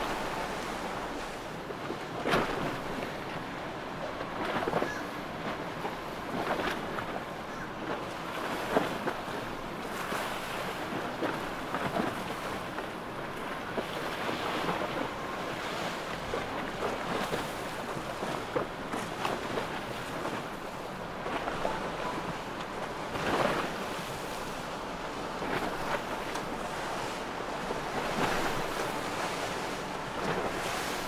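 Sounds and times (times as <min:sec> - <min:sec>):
seawater and surf rushing: 0:00.0 - 0:31.0.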